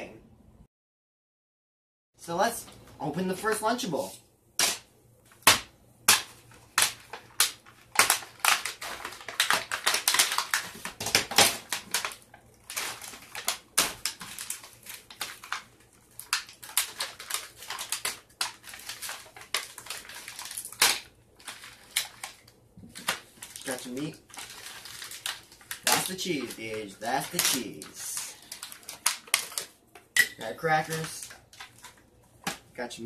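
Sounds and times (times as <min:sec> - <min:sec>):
plastic crinkling and crackling: 0:06.1 - 0:32.8.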